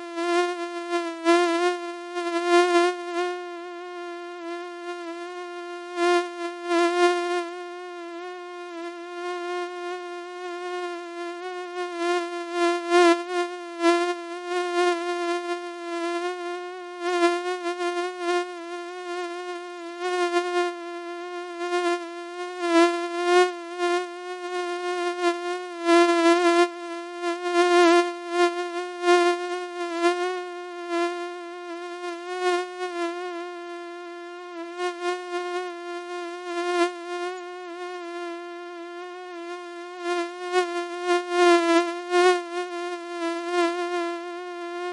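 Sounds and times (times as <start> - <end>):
mosquito buzzing: 0.0 - 44.9.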